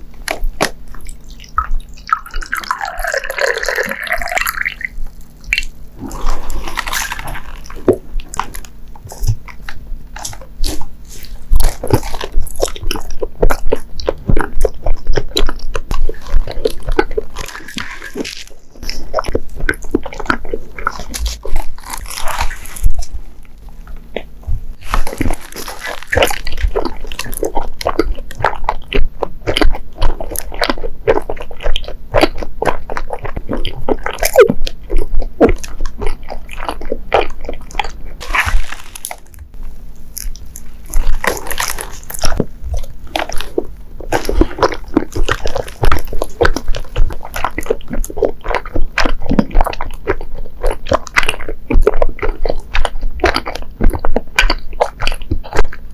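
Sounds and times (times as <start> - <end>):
chewing sticky sweets: 0.0 - 55.9.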